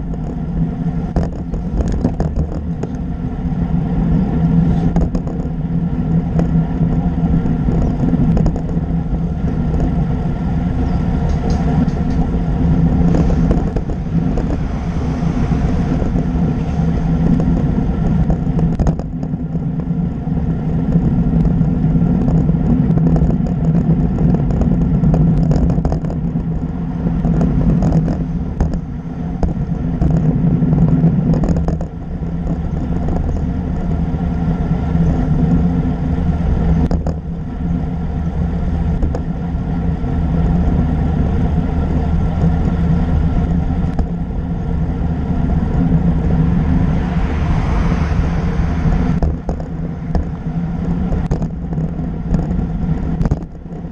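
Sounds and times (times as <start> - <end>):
road rumble: 0.0 - 53.9
wind rushing on microphone: 0.0 - 53.9.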